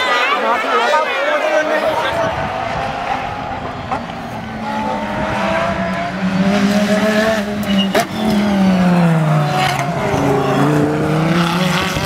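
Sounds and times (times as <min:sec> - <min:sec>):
race car engine revving: 0:01.8 - 0:12.0.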